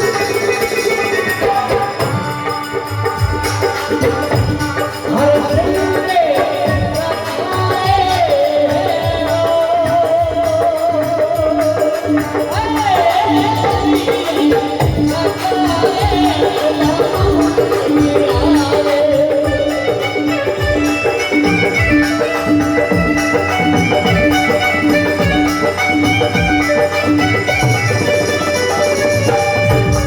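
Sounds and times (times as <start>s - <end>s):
hand drum rhythm: 0.0s - 30.0s
jingling percussion: 0.0s - 30.0s.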